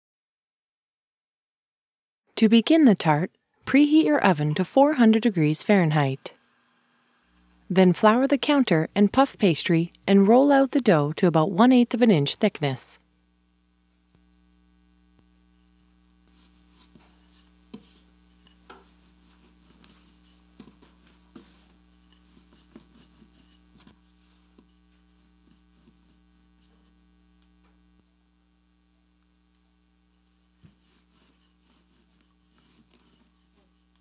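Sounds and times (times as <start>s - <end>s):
faint electrical hum: 2.4s - 34.0s.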